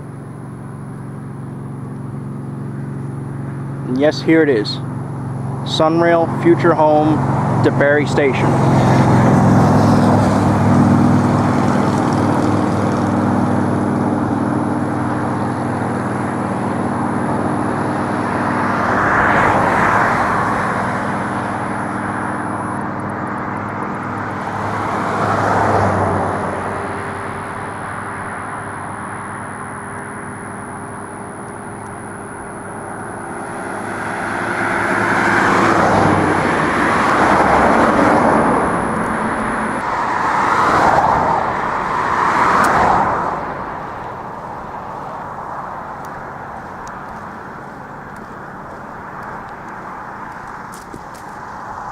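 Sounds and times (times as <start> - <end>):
cars passing by: 0.0 - 51.9
vehicle engine humming: 0.0 - 51.9.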